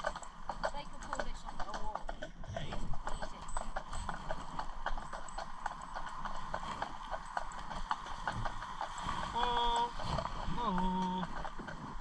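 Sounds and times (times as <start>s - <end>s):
horse hooves clip-clopping on road: 0.0s - 12.0s.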